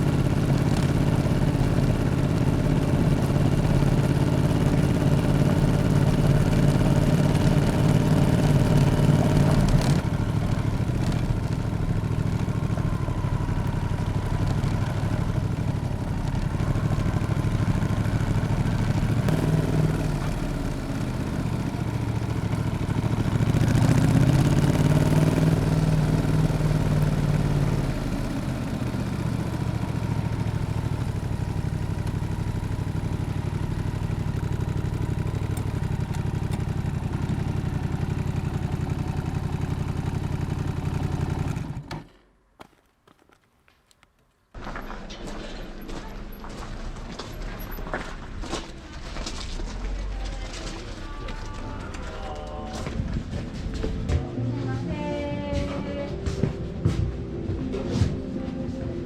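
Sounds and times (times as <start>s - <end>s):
motorcycle engine running: 0.0s - 42.3s, 44.6s - 59.0s.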